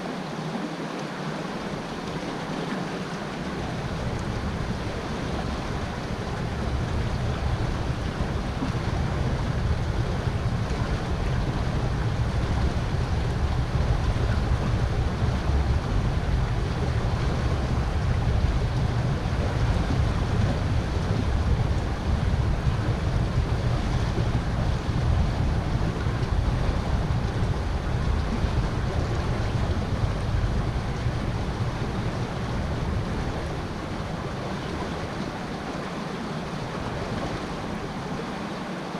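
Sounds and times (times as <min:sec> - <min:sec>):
river water rushing: 0:00.0 - 0:38.9
wind rumble on microphone: 0:01.2 - 0:38.9.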